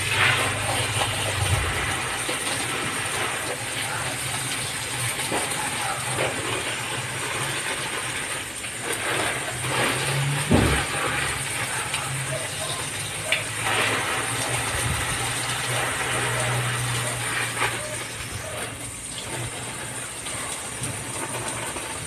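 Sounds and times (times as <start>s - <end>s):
hose water spraying and splashing: 0.0s - 22.0s.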